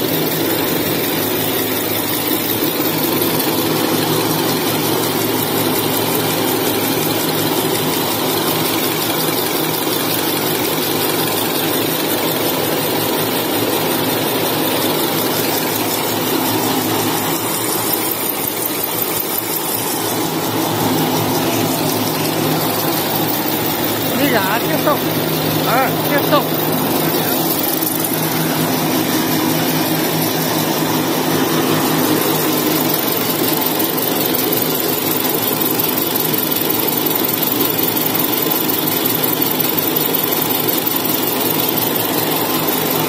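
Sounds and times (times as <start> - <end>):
machine humming steadily: 0.0 - 43.0.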